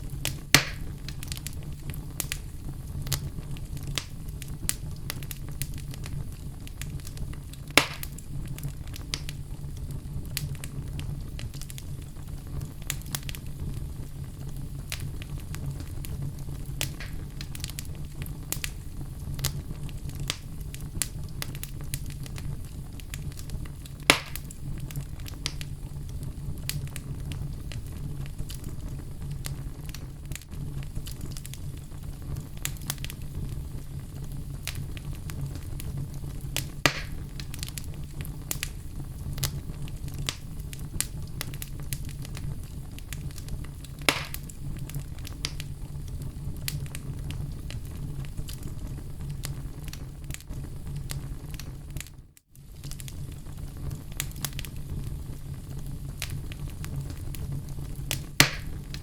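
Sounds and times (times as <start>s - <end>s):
fire crackling: 0.0s - 59.0s
loud fire pops: 0.0s - 59.0s
low rumble of flame: 0.0s - 59.0s.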